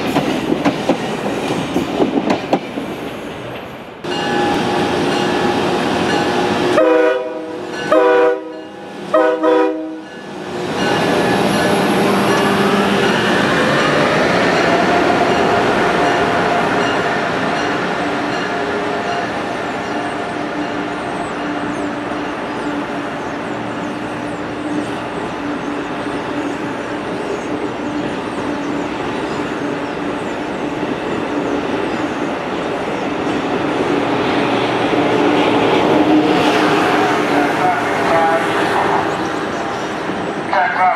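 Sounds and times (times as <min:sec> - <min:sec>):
steady train hum: 0:00.0 - 0:40.9
train wheels rumbling on rails: 0:00.0 - 0:40.9.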